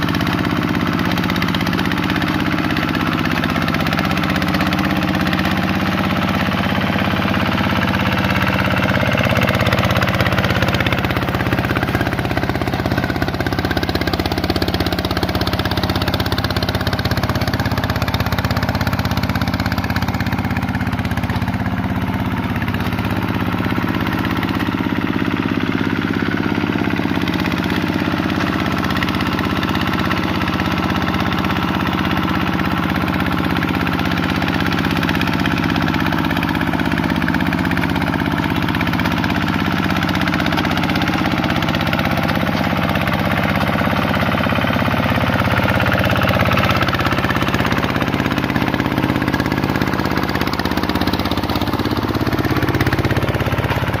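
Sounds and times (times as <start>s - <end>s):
hand tractor diesel engine running: 0.0s - 54.0s.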